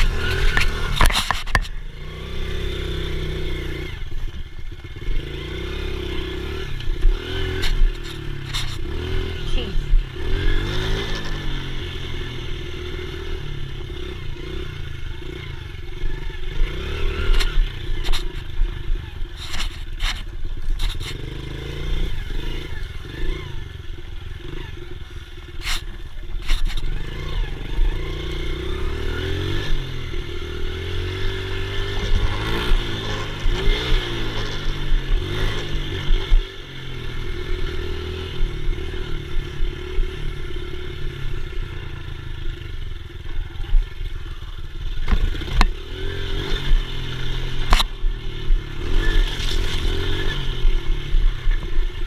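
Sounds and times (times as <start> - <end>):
dirt bike engine revving: 0.0 - 43.0, 43.8 - 52.0.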